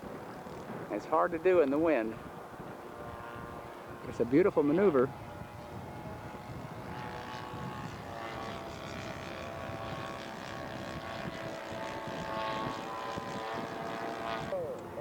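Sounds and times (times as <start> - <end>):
model airplane engine buzzing: 0.0 - 15.0.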